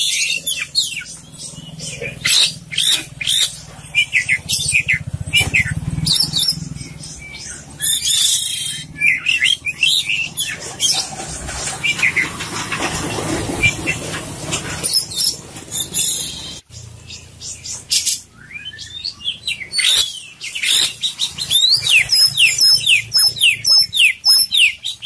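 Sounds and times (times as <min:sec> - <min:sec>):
bird singing chirps and whistles: 0:00.0 - 0:11.1, 0:14.8 - 0:25.0.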